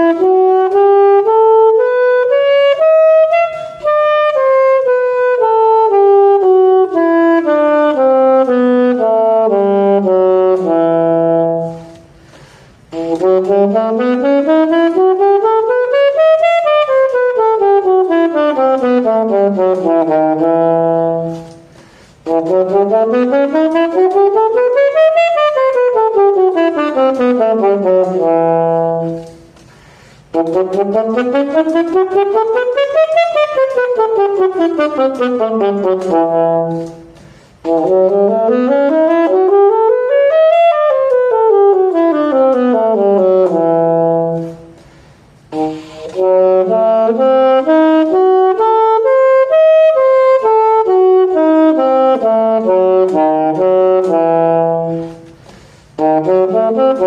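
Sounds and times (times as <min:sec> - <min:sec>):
saxophone playing scales: 0:00.0 - 0:57.0.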